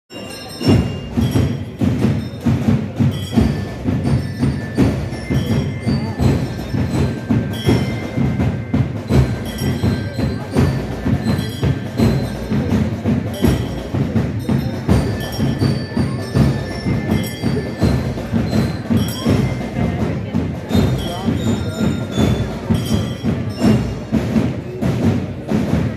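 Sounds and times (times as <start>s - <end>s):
marching drums: 0.1s - 25.9s
metal bells ringing: 0.1s - 25.9s.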